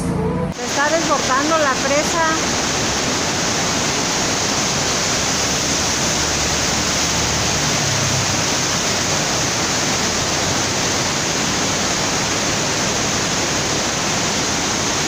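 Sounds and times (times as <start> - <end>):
water rushing over spillway: 0.5 - 15.0.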